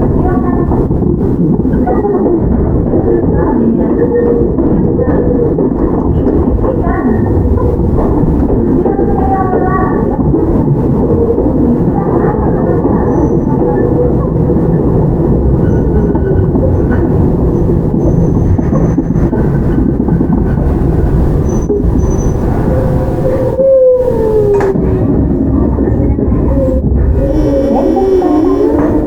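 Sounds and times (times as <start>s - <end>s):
train wheels rumbling on track: 0.0s - 29.0s.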